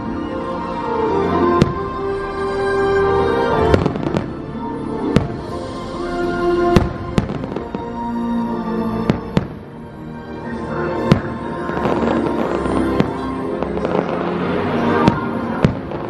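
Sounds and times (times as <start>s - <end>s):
soundtrack music with held notes: 0.0s - 16.0s.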